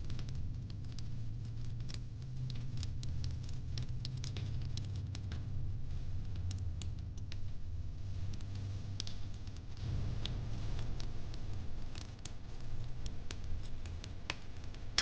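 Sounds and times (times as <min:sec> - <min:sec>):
steady low rumble: 0:00.0 - 0:15.0
fire pit crackling and popping: 0:00.1 - 0:15.0.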